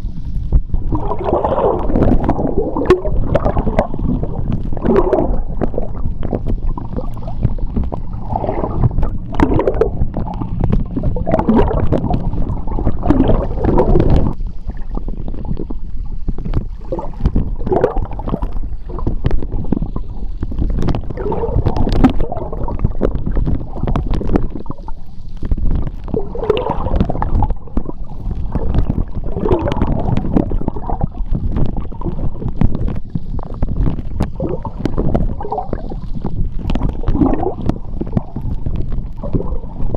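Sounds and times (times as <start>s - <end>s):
low underwater rumble: 0.0s - 39.9s
sharp clicks and pops: 0.0s - 39.9s
underwater bubbling water: 0.0s - 39.9s.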